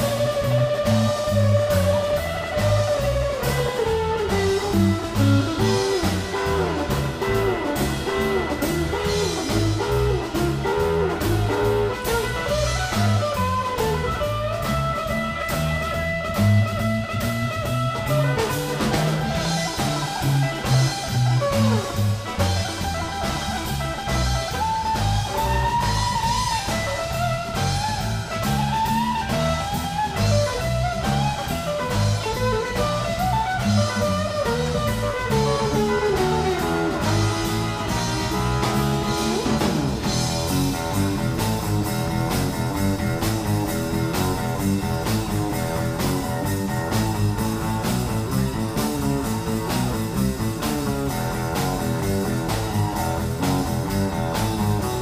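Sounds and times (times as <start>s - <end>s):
guitar lead with bending notes: 0.0s - 55.0s
live blues band playing: 0.0s - 55.0s.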